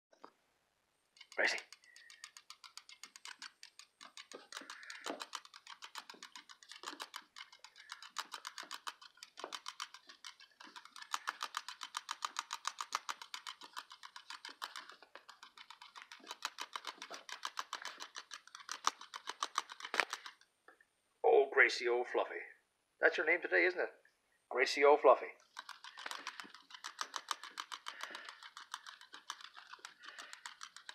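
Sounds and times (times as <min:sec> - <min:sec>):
puppy scratching: 0:01.1 - 0:20.4, 0:25.4 - 0:30.9.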